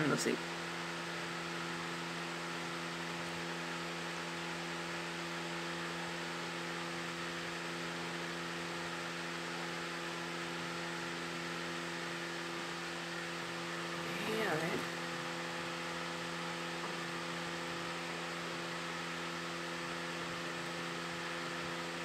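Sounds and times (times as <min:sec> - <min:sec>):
low steady hum: 0:04.1 - 0:22.0.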